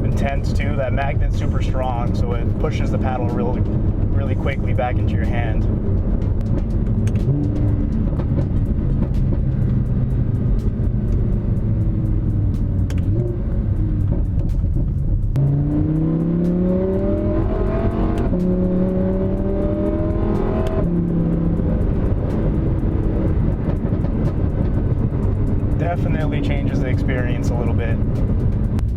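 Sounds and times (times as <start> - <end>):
car engine accelerating: 0.0 - 28.9
gear shifts: 0.0 - 28.9.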